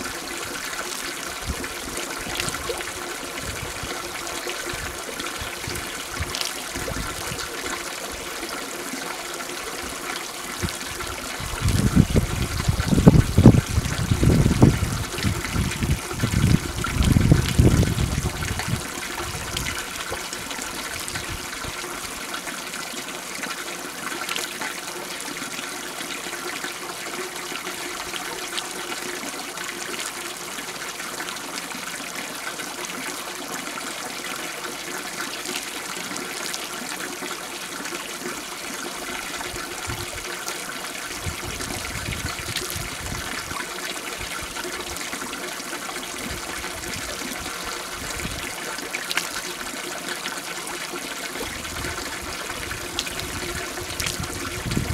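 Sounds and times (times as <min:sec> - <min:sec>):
water splashing from pipe spout: 0:00.0 - 0:54.9.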